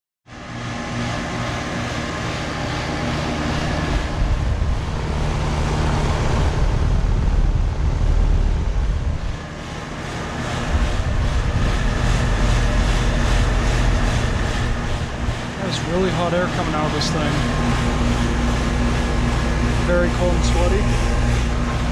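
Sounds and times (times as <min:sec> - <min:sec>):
compressor hum: 0:00.3 - 0:21.9
condenser fan rushing: 0:00.3 - 0:21.9.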